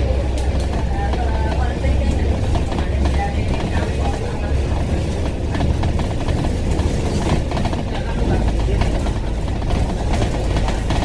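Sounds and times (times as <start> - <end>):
bus body rattling: 0.0 - 11.0
bus engine drone: 0.0 - 11.0
passengers talking: 0.0 - 11.0.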